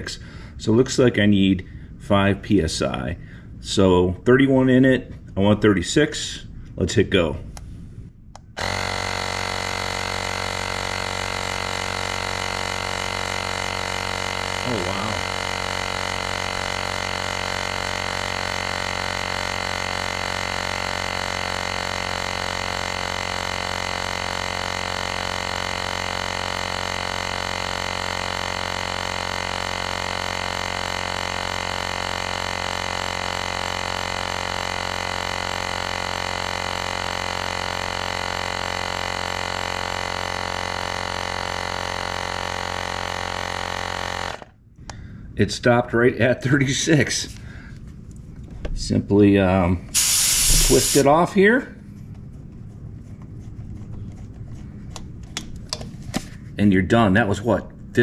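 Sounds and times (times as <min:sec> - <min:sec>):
tire inflator compressor droning: 0:07.5 - 0:45.4, 0:46.4 - 0:56.6.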